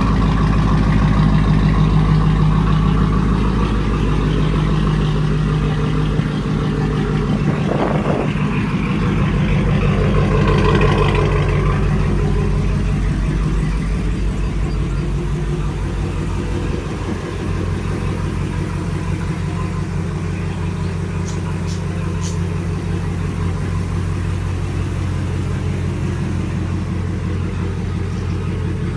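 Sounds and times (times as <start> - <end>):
truck engine idling: 0.0 - 28.9.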